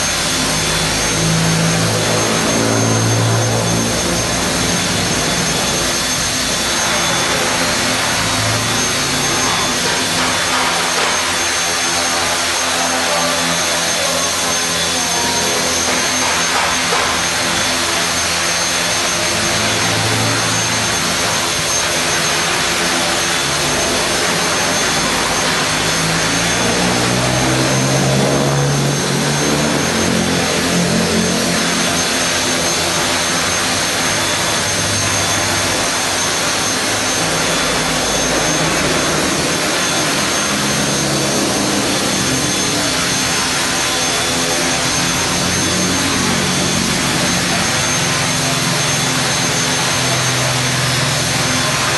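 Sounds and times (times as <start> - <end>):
rc helicopter motor whine: 0.0 - 51.9.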